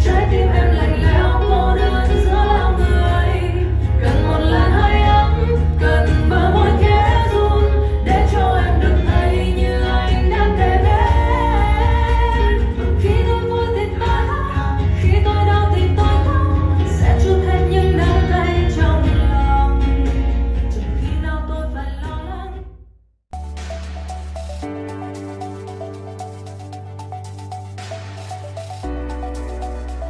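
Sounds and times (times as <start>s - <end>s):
song with singing and heavy bass: 0.0s - 22.5s, 23.4s - 30.0s.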